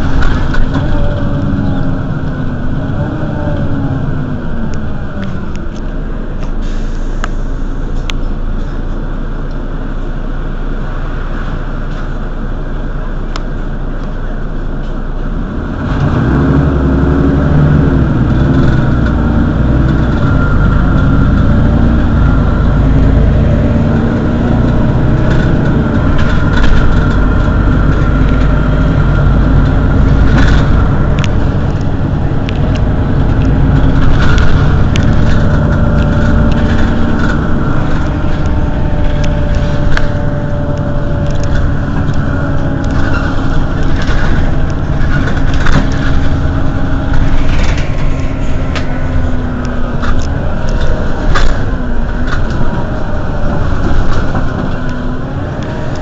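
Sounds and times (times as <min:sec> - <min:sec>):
bus engine idling: 0:00.0 - 0:16.0, 0:16.6 - 0:56.0.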